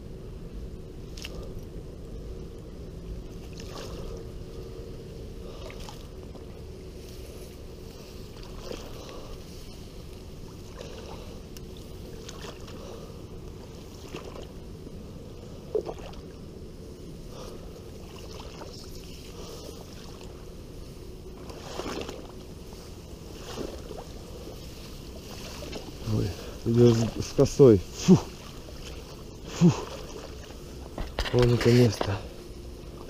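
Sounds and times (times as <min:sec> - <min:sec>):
grass swishing against person walking: 0:03.3 - 0:14.7, 0:15.7 - 0:33.0.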